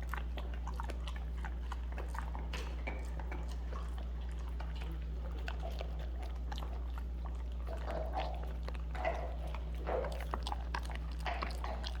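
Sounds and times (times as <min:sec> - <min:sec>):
puppy chewing a treat: 0:00.0 - 0:12.0.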